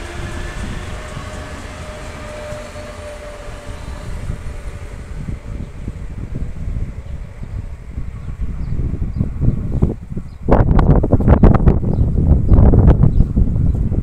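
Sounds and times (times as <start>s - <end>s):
train traction motor whine: 0.0s - 13.8s
wind rumble on microphone: 0.0s - 14.0s.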